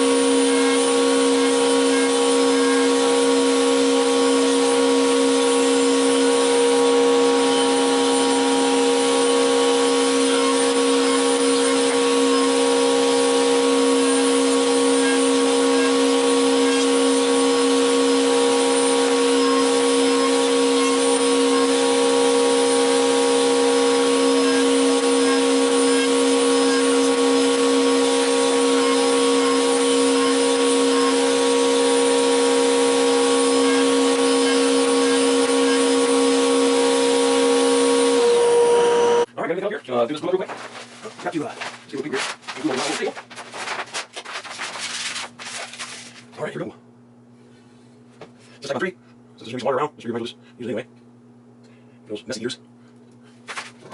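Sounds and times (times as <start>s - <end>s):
woodshop machine humming: 0.0s - 39.4s, 40.4s - 46.4s.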